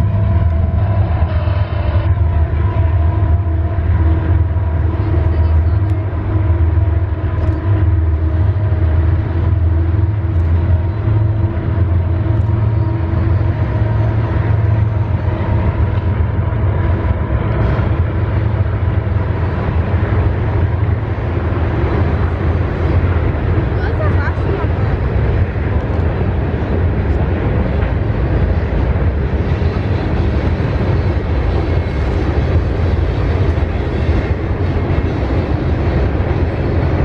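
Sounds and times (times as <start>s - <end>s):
freight train rumbling: 0.0s - 37.0s.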